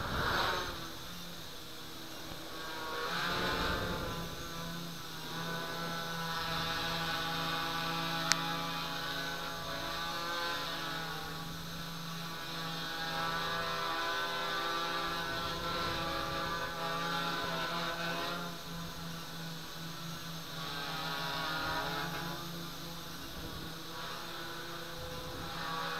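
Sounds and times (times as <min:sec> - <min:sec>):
quadcopter hovering hum: 0:00.0 - 0:25.9.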